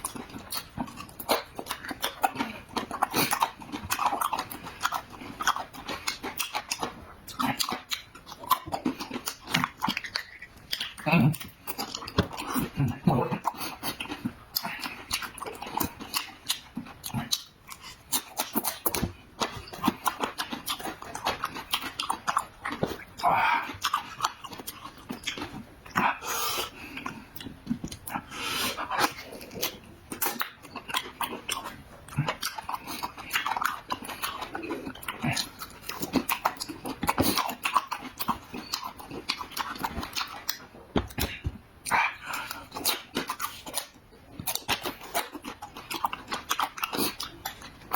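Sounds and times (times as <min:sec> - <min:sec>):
person chewing and lip-smacking: 0:00.0 - 0:47.9.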